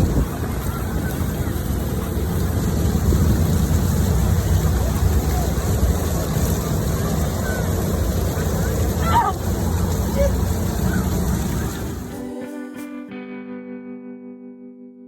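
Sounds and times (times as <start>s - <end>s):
low motor rumble: 0.0s - 12.1s
rushing noise: 0.0s - 12.6s.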